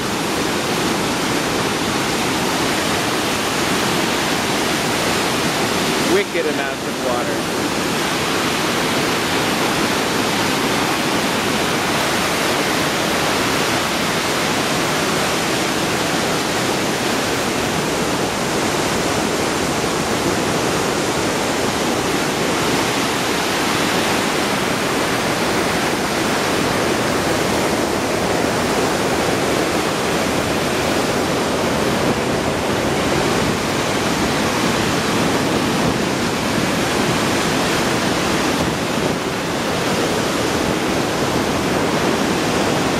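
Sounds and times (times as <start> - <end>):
whitewater rushing: 0.0 - 42.9.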